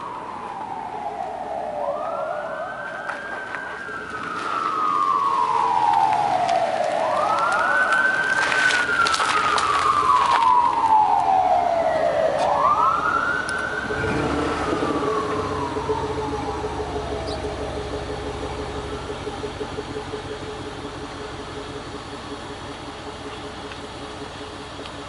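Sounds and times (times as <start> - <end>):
emergency vehicle siren wailing: 0.0 - 25.0
low engine note: 0.0 - 25.0.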